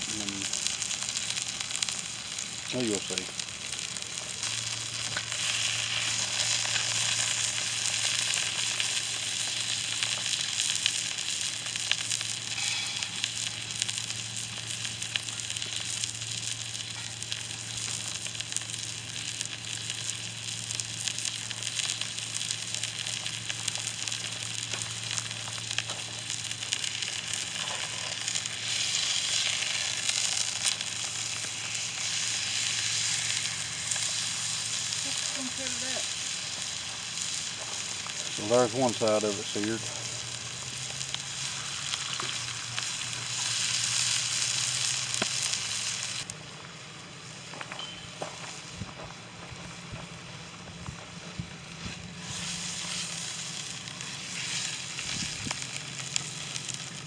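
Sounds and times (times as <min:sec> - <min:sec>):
meat sizzling in hot oil: 0:00.0 - 0:47.5, 0:49.6 - 0:57.0.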